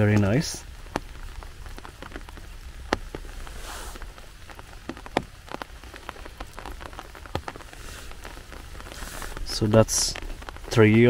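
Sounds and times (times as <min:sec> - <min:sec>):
raindrops ticking close by: 0:00.0 - 0:11.0
steady rain falling: 0:00.0 - 0:11.0.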